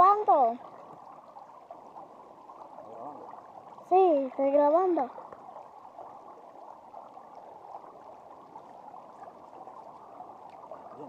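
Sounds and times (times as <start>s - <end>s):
river babbling: 0.0s - 11.0s.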